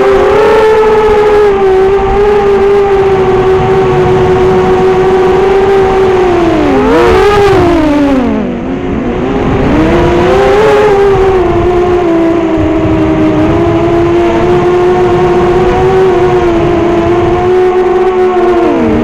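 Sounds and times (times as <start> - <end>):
quadcopter motors whining: 0.0 - 19.0
wind noise: 0.0 - 19.0.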